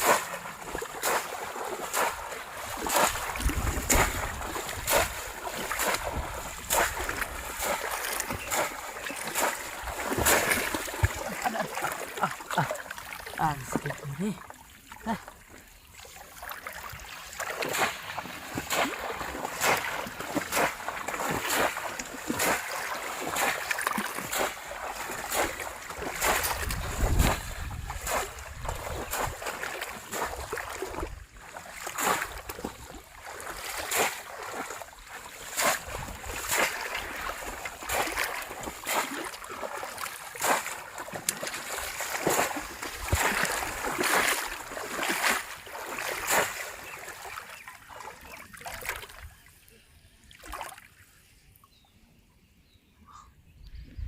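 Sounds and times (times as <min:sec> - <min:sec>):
shallow water splashing: 0:00.0 - 0:49.4, 0:50.2 - 0:51.1.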